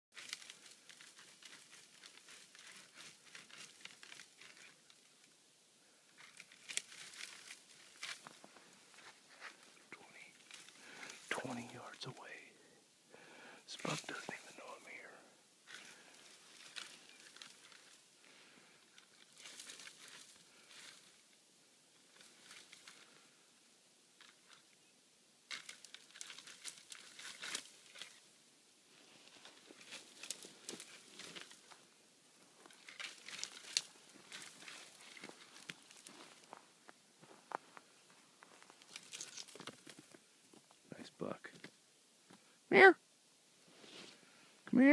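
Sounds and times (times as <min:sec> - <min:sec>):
faint rustling and crinkling: 0:00.1 - 0:44.9.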